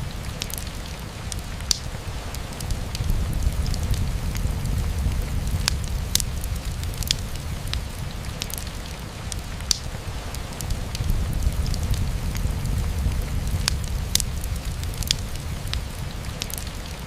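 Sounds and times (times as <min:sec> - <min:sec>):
rain on a window: 0:00.0 - 0:17.0
wood fire crackling: 0:00.0 - 0:17.0.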